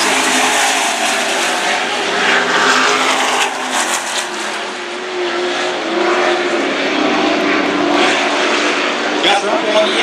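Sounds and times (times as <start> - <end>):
race truck engines: 0.0 - 10.0.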